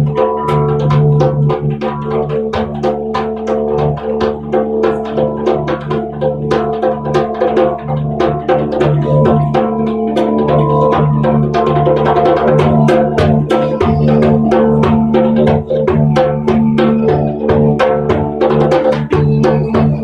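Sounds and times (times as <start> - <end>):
didgeridoo drone: 0.0 - 20.0
hand percussion strikes: 0.0 - 20.0.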